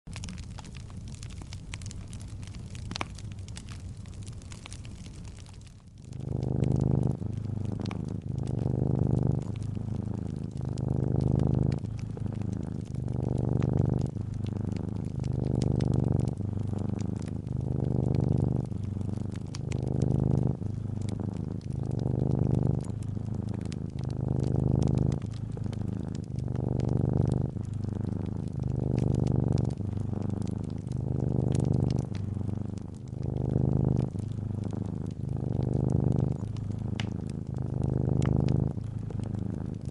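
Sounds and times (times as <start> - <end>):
fireplace crackles and pops: 0.0 - 39.9
cat purring: 0.1 - 39.9.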